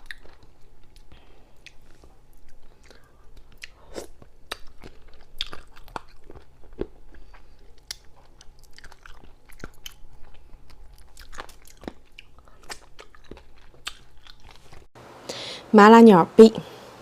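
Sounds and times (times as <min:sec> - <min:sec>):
person chewing crunchy seafood: 0:00.0 - 0:14.9.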